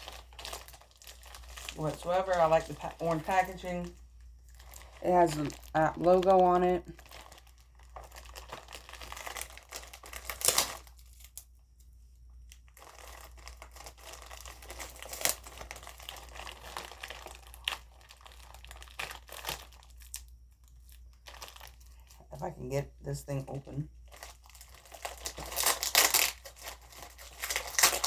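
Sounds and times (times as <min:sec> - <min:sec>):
plastic tearing crackles: 0:00.0 - 0:11.6, 0:12.4 - 0:22.4, 0:24.0 - 0:28.0
plastic package crinkling: 0:00.0 - 0:22.4, 0:23.9 - 0:28.0.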